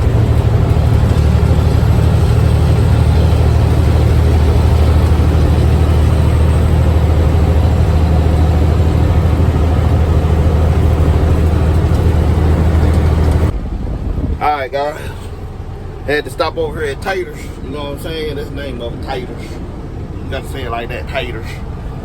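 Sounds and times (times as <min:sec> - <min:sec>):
road noise: 0:00.0 - 0:22.0
truck diesel engine rumbling: 0:00.0 - 0:22.0.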